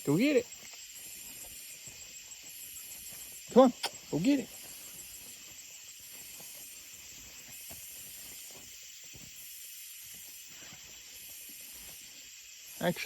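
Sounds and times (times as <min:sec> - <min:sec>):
night insects buzzing: 0:00.0 - 0:13.0
pulsing high insect band: 0:00.0 - 0:13.0.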